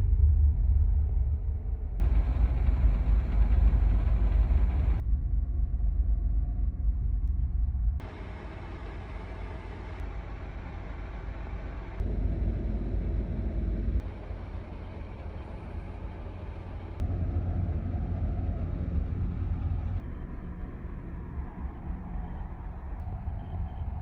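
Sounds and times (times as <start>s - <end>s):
wind: 0.0s - 24.0s
ferry engine rumble: 1.8s - 24.0s.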